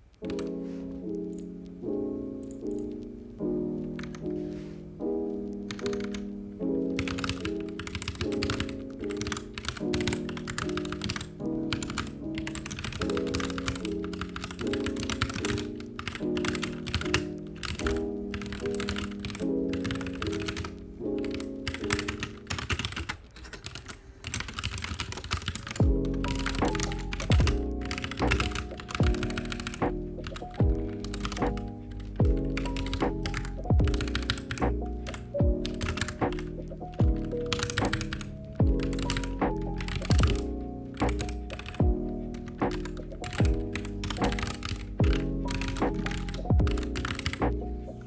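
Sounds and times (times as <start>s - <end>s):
lofi piano chords: 0.0s - 48.0s
keyboard typing clicks: 0.1s - 1.6s, 2.4s - 3.1s, 3.8s - 4.4s, 5.5s - 6.3s, 7.0s - 47.7s.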